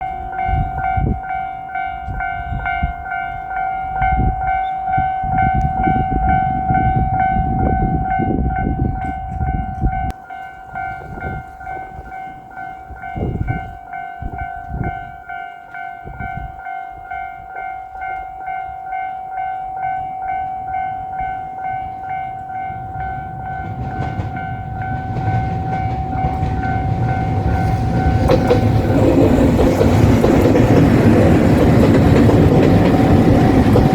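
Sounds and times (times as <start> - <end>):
diesel railcar approaching: 0.0 - 33.9
level-crossing alarm bell ringing: 0.0 - 33.9.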